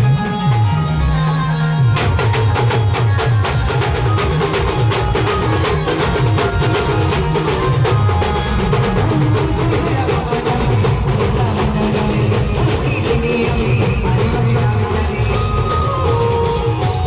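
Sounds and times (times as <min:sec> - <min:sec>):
fast drumming and percussion: 0:00.0 - 0:17.0.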